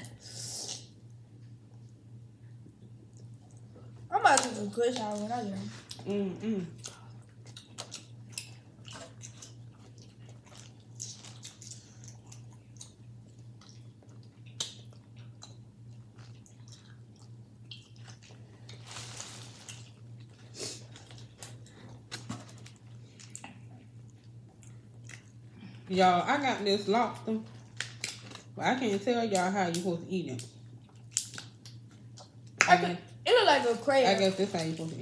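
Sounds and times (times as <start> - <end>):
people chewing food: 0.0 - 25.9, 27.1 - 32.6
steady low hum: 0.0 - 35.0.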